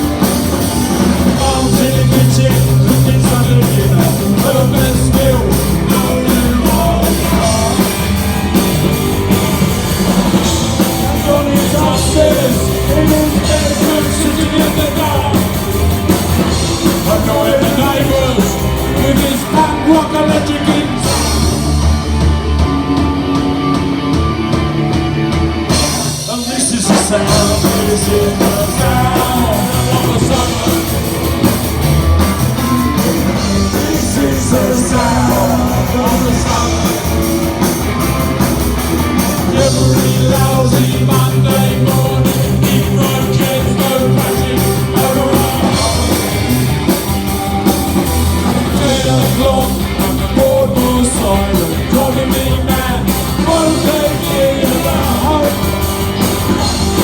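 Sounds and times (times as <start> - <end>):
drums driving beat: 0.0 - 57.0
punk rock band playing: 0.0 - 57.0
person singing lead vocal: 1.0 - 8.6, 10.0 - 21.7, 26.1 - 31.6, 32.2 - 38.0, 39.2 - 46.6, 48.5 - 57.0.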